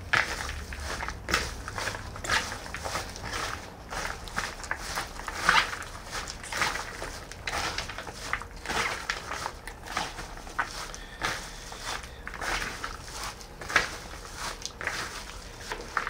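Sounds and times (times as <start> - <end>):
spoon stirring salad in bowl: 0.1 - 16.0.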